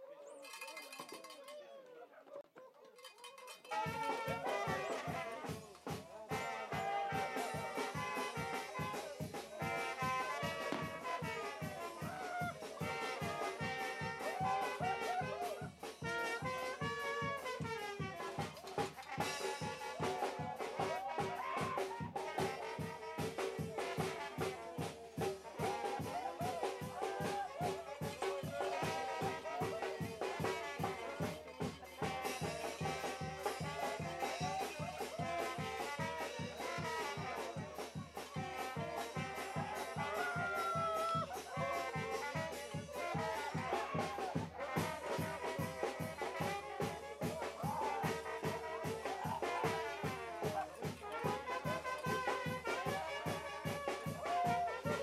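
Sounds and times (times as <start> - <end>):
brass band music: 3.5 - 55.0
steady drum beat: 3.6 - 55.0.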